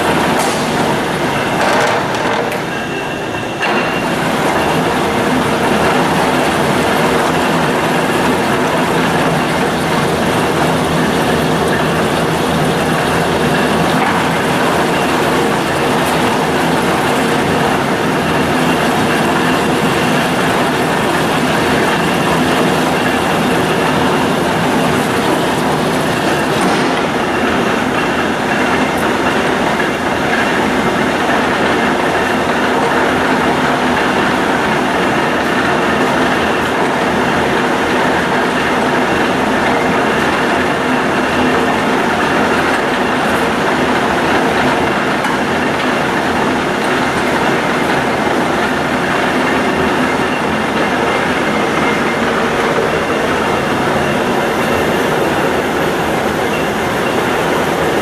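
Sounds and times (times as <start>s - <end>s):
lathe running: 0.0s - 58.0s.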